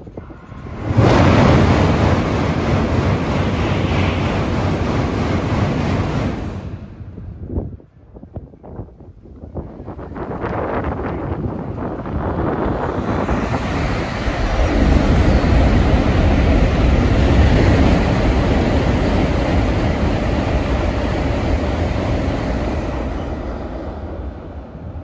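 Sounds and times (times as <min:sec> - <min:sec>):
train passing over a steel bridge: 0:00.0 - 0:25.0.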